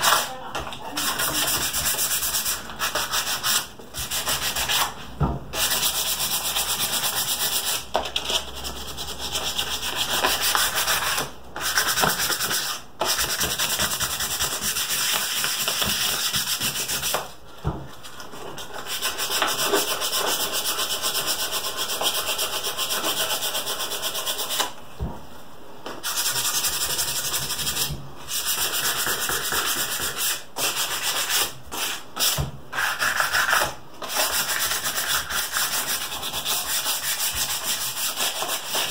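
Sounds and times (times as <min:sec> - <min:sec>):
sandpaper scratching wood: 0:01.0 - 0:05.0, 0:05.6 - 0:17.2, 0:18.8 - 0:24.7, 0:26.0 - 0:38.9.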